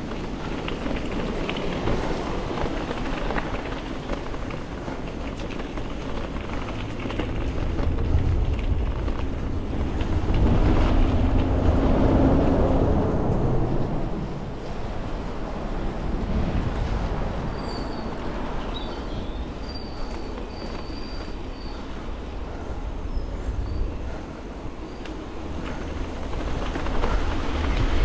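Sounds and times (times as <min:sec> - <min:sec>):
e-bike rumbling: 0:00.0 - 0:28.0
wind buffeting microphone: 0:00.0 - 0:28.0.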